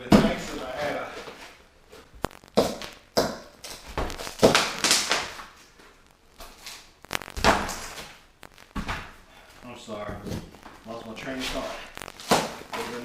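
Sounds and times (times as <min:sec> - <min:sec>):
debris scraping and crunching: 0:00.2 - 0:13.0.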